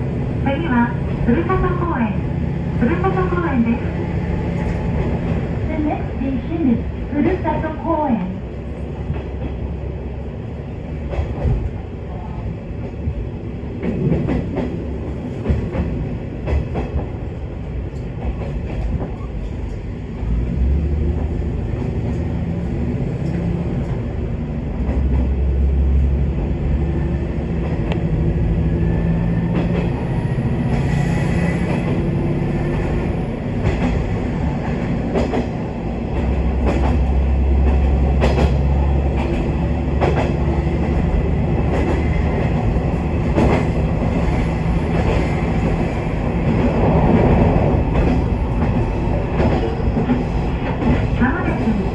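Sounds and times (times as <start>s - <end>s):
diesel railcar engine hum: 0.0s - 51.9s.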